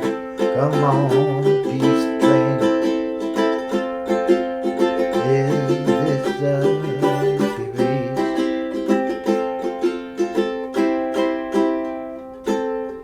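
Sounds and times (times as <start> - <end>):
strummed string chords: 0.0 - 13.0.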